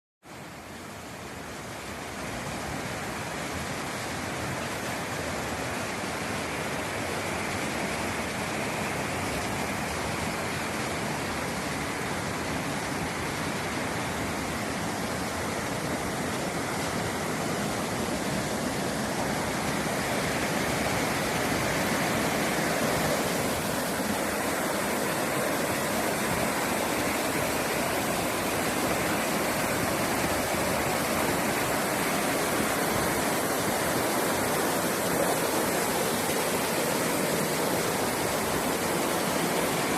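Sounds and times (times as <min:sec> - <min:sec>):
waterfall roaring: 0:00.3 - 0:39.9.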